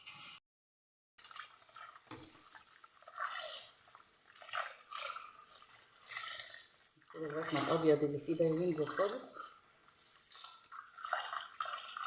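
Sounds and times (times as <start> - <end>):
tap water running into sink: 1.2 - 12.0
water splashing rice: 1.2 - 12.0.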